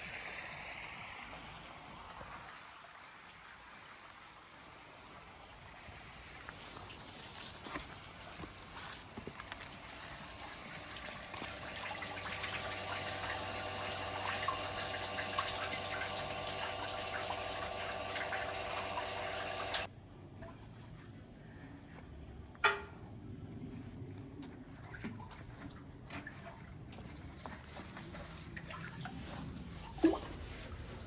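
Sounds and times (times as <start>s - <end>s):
water pouring and splashing: 0.0s - 19.9s, 24.8s - 31.0s.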